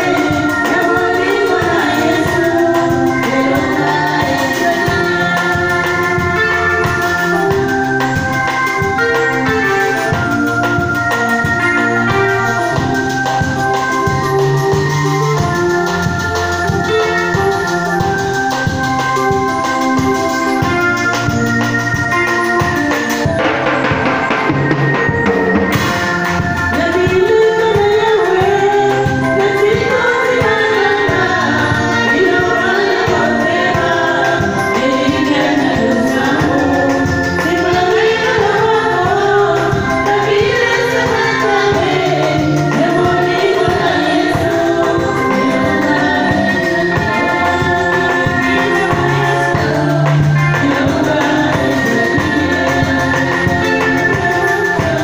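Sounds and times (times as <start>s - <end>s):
women singing gospel: 0.0s - 23.3s, 25.1s - 55.0s
electronic keyboard: 0.0s - 55.0s.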